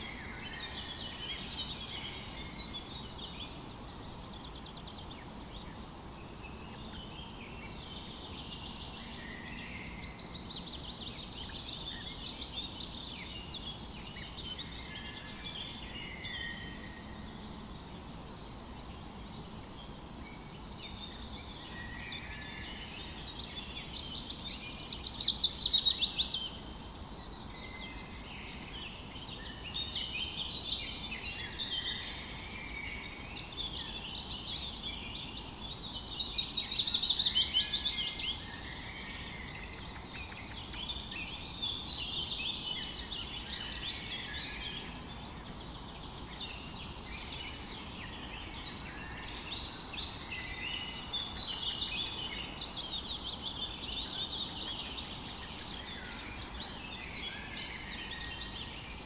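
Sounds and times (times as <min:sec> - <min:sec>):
faint outdoor hiss: 0:00.0 - 0:59.0
songbirds chirping and warbling: 0:00.0 - 0:59.0.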